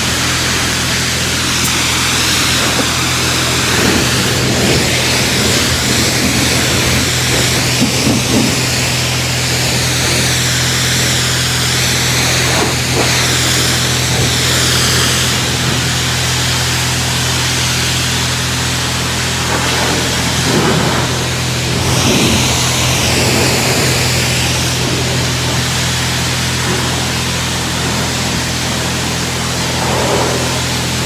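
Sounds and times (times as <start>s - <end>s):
low hum: 0.0s - 31.0s
water spraying from a hose: 0.0s - 31.0s.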